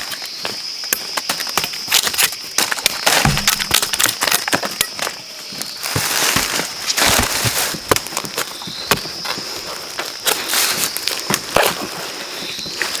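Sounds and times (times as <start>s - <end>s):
dry leaves and twigs crackling: 0.0s - 13.0s.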